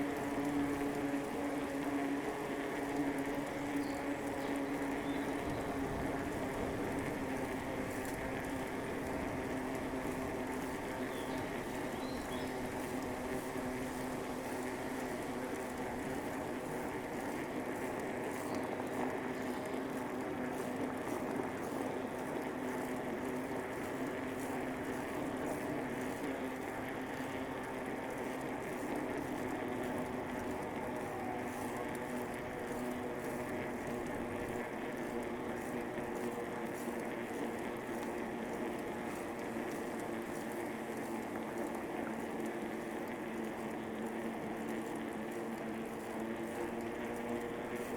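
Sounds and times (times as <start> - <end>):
bicycle humming: 0.0 - 47.9.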